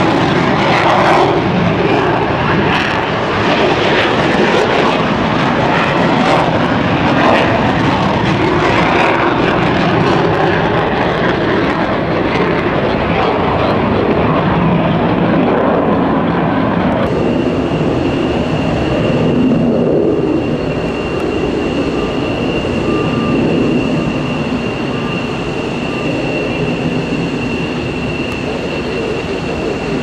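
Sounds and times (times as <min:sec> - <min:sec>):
jet engine roar: 0:00.0 - 0:30.0
jet engines whining on runway: 0:00.0 - 0:30.0.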